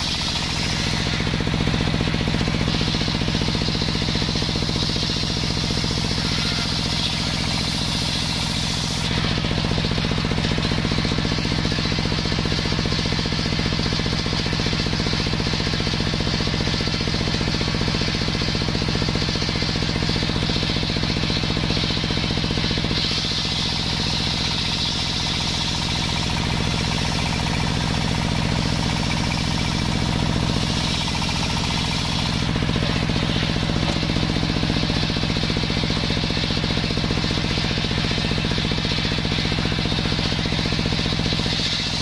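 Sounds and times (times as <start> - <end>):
saw blade cutting wood: 0.0 - 16.1, 16.8 - 42.0
circular saw running: 0.0 - 42.0.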